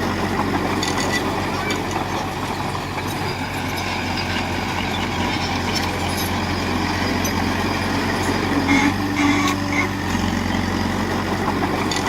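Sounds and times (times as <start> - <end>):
heavy diesel engine under load: 0.0 - 12.0.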